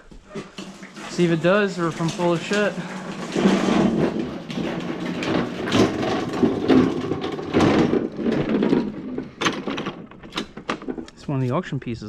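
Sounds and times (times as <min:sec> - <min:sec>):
recoil starter pulls: 0:00.4 - 0:11.2.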